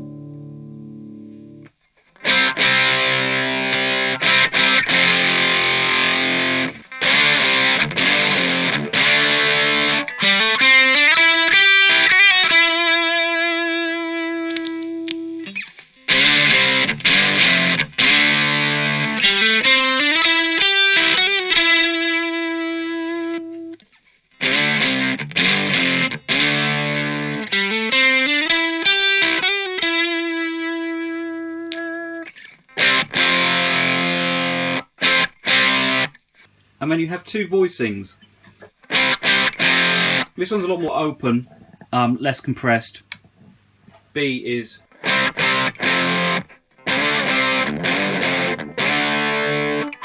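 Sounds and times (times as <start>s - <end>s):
distorted electric guitar: 0.0s - 23.8s, 24.4s - 36.8s, 38.2s - 42.0s, 43.0s - 50.0s.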